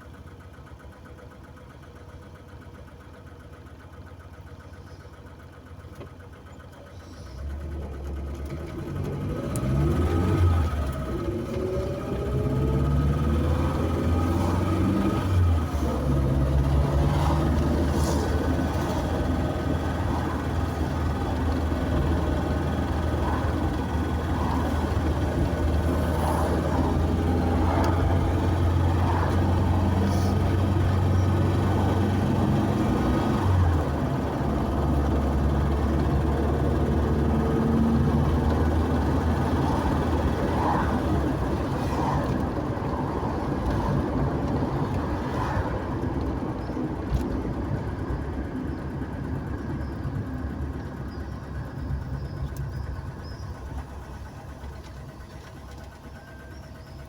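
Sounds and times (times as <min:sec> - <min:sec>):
car engine hum: 0:00.0 - 0:57.0
tyre and road noise: 0:06.9 - 0:57.0.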